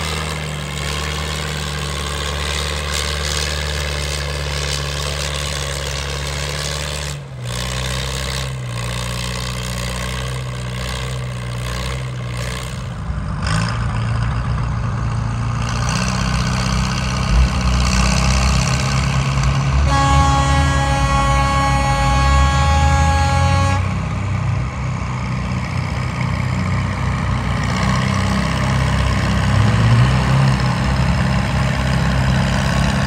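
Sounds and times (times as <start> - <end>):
tractor engine idling: 0.0 - 33.0
tractor engine pulling a sled: 0.0 - 33.0.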